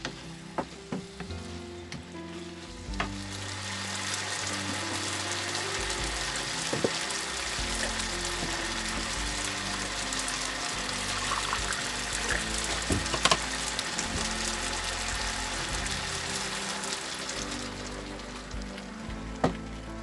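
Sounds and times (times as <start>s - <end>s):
background music: 0.0s - 20.0s
meat sizzling in a wok: 2.2s - 20.0s.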